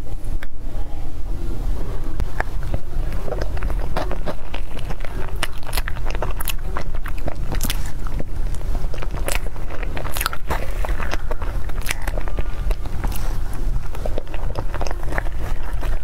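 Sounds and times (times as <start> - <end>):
wet mouth clicks and chewing: 2.2 - 16.0.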